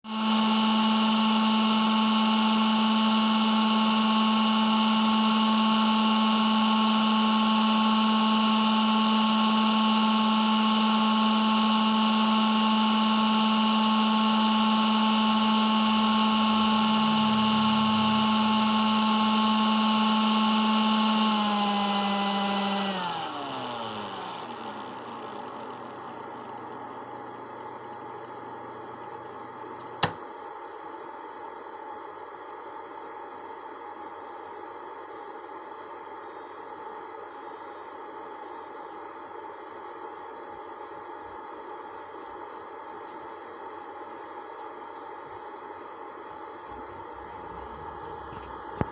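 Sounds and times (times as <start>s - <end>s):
microwave oven humming: 0.1s - 48.9s.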